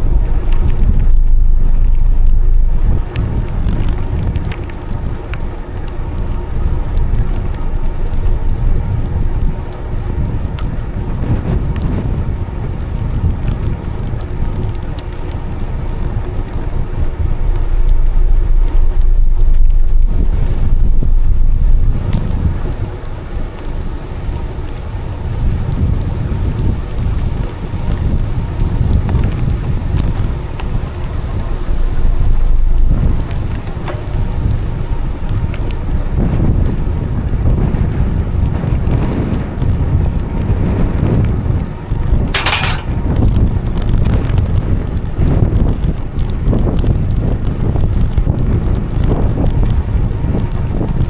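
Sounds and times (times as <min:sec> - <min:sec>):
bicycle rumbling along path: 0:00.0 - 0:51.0
wind buffeting microphone: 0:00.0 - 0:51.0.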